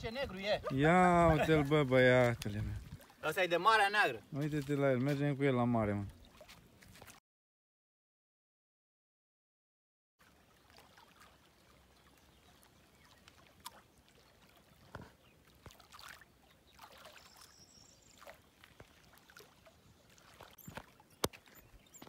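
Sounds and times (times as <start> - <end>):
small waves lapping: 0.0 - 7.2, 10.2 - 22.0.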